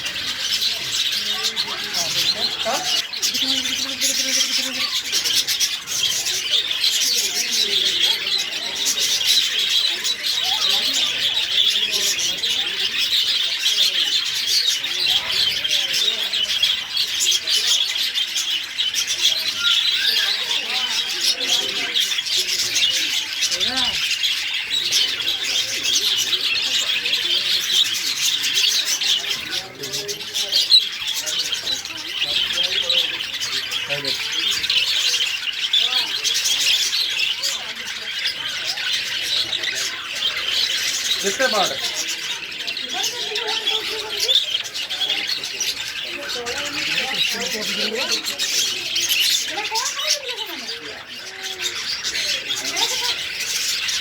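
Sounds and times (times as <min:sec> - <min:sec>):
caged birds chirping and twittering: 0:00.0 - 0:54.0.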